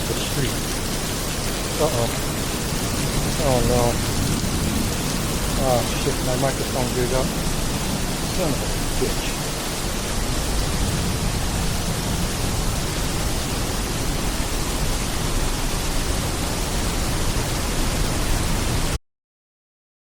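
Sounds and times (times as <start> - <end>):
heavy rain hiss: 0.0 - 19.0.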